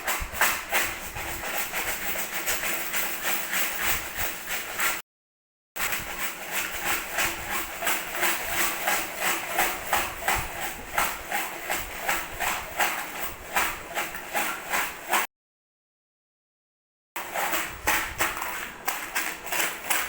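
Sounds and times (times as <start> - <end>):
baby rattle shaken: 0.0 - 5.0, 5.8 - 15.3, 17.2 - 20.0.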